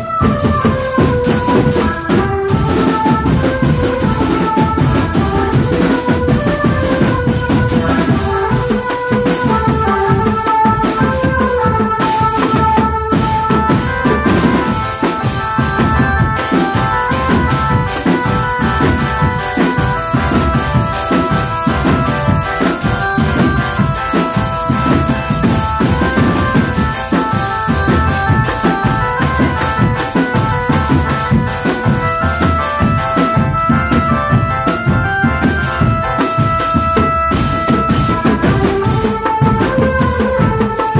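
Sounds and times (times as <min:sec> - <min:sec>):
held note melody: 0:00.0 - 0:40.9
marching drums beating: 0:00.0 - 0:40.9.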